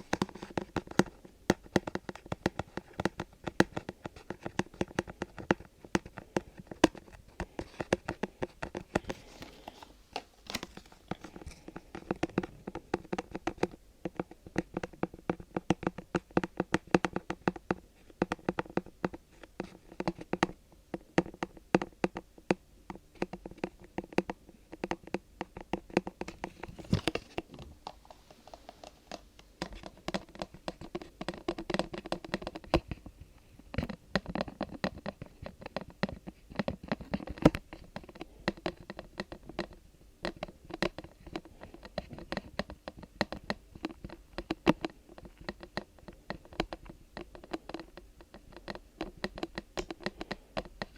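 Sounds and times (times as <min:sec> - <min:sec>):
fingers tapping and scratching: 0:00.0 - 0:50.9.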